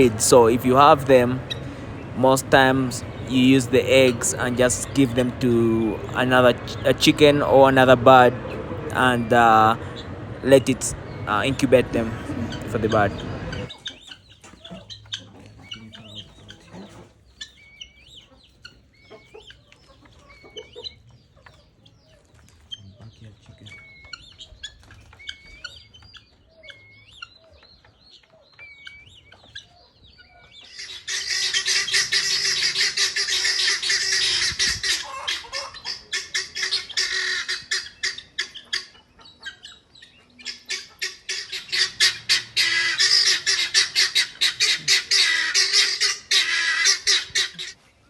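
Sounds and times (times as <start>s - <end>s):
faint chirping calls: 0.0s - 48.0s
guinea fowl cackling: 0.0s - 48.0s.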